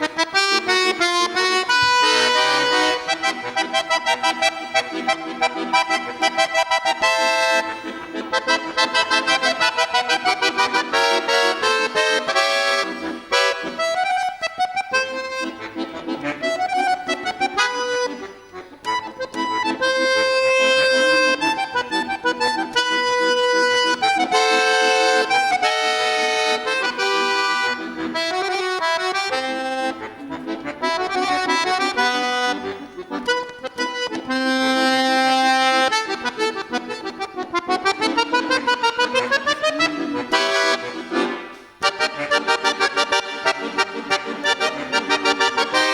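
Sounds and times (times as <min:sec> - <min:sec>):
button accordion playing: 0:00.0 - 0:45.9.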